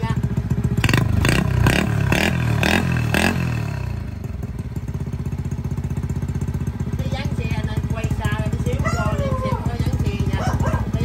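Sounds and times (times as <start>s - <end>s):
motorcycle engine revving and idling: 0.0s - 11.0s.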